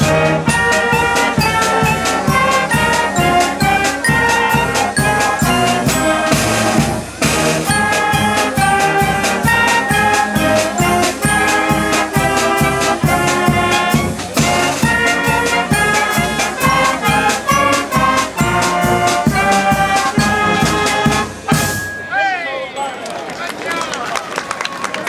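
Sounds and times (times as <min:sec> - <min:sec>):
brass: 0:00.0 - 0:21.9
drum kit beat: 0:00.0 - 0:21.9
flutes: 0:00.0 - 0:22.5
saxophones: 0:00.0 - 0:22.5.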